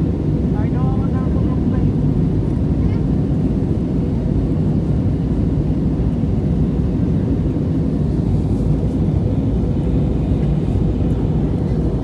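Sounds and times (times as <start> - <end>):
jet airliner cabin noise: 0.0 - 12.0.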